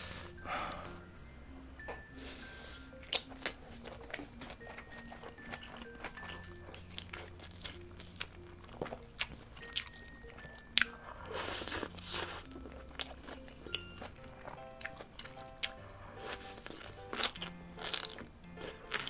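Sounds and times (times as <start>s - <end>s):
wet chewing with crunches: 2.6s - 19.0s.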